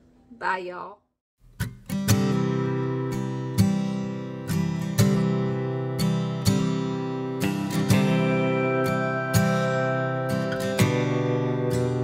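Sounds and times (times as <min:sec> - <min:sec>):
strummed acoustic guitar: 0:01.4 - 0:12.0.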